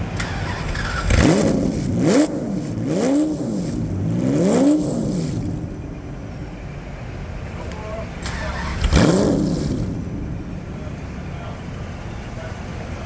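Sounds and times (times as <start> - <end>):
race car engine idling and revving: 0.0 - 13.0.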